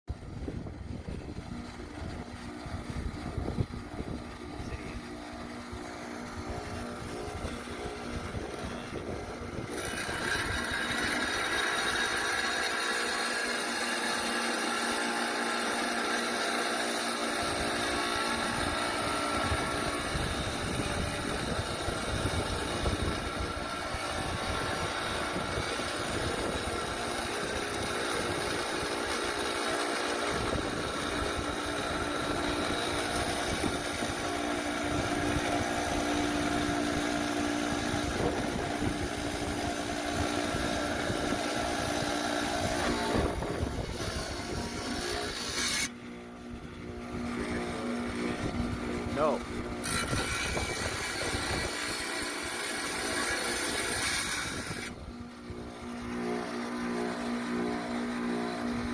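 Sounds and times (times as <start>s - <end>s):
saw motor humming: 0.1s - 58.9s
saw blade grinding stone: 4.6s - 46.1s, 49.0s - 55.3s.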